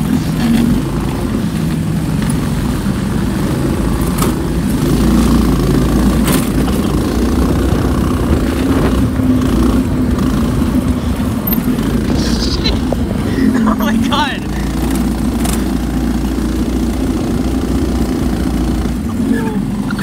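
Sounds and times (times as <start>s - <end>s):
car engine humming: 0.0s - 20.0s
road noise: 0.0s - 20.0s.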